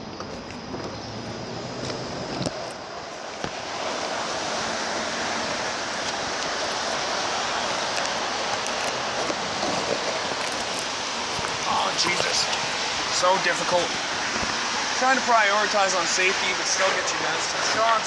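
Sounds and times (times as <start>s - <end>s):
rain hissing: 2.2s - 18.0s.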